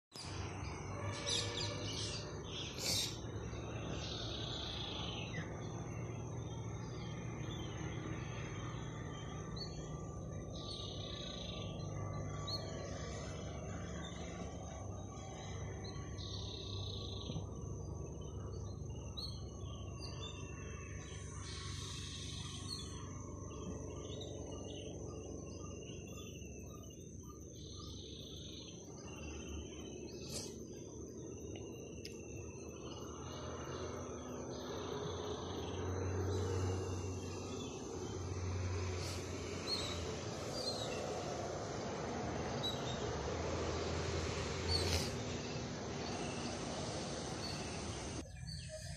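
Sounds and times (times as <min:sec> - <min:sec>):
birds chirping: 0:00.1 - 0:48.9
steady high-pitched whine: 0:00.1 - 0:48.9.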